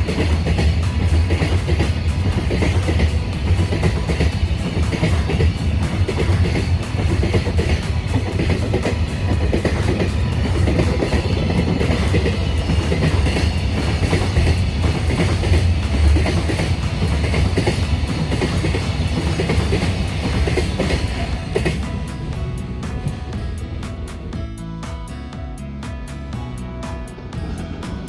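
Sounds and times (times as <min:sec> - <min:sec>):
wheels clacking over rail joints: 0:00.0 - 0:24.3
freight train rumbling past: 0:00.0 - 0:28.0.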